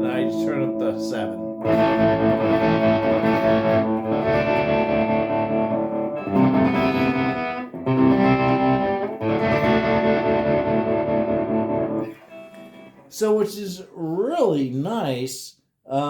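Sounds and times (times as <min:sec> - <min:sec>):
overdriven electric guitar chords: 0:00.0 - 0:13.1.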